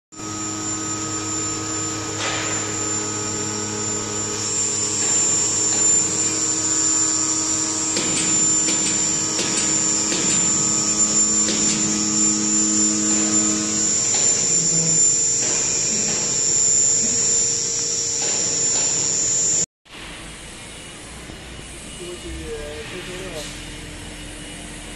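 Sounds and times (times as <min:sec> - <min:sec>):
high-pitched machine whine: 0:00.2 - 0:24.9
machine electric hum: 0:00.2 - 0:24.9.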